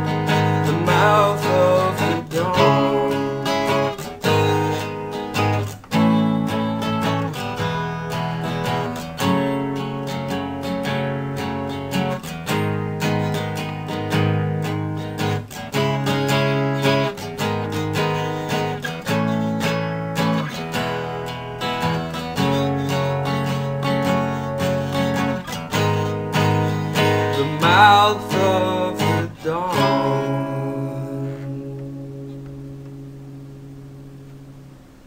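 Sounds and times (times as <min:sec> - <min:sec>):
strummed acoustic guitar chords: 0:00.0 - 0:35.0.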